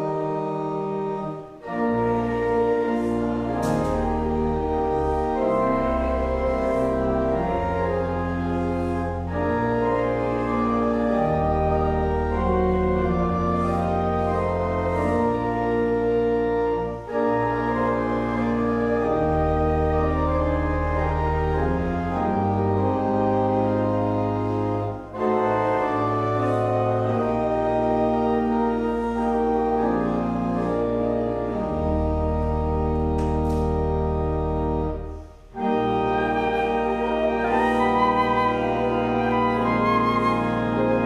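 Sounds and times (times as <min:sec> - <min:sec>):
church organ chords: 0:00.0 - 0:41.0.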